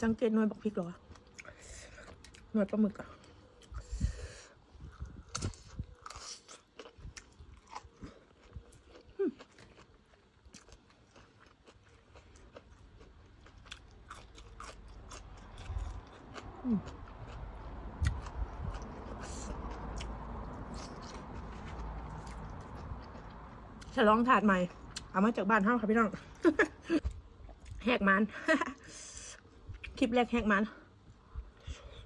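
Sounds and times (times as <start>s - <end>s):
person chewing and crunching: 0.6s - 25.2s, 26.3s - 27.8s.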